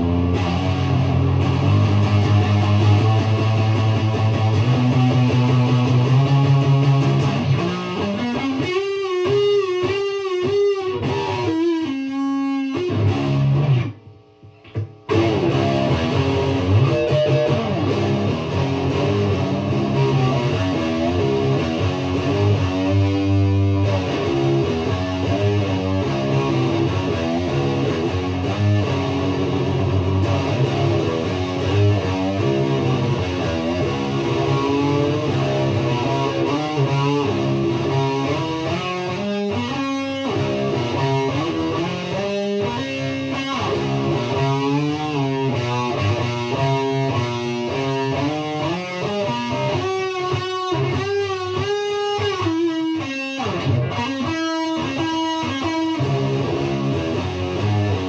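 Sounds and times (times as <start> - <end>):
electric guitar music: 0.0 - 58.0.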